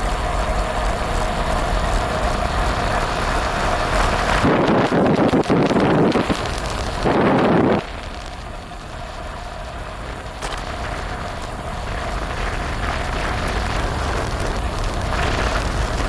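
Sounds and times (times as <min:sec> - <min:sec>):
bicycle rolling noise: 0:00.0 - 0:16.0
faint steady whine: 0:00.0 - 0:16.0
wind rumble on microphone: 0:00.0 - 0:16.0.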